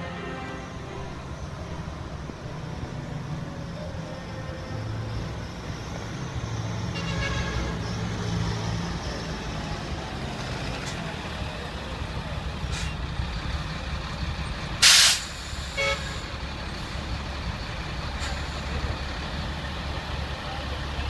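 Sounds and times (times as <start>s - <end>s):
heavy trucks driving by: 0.0s - 21.0s.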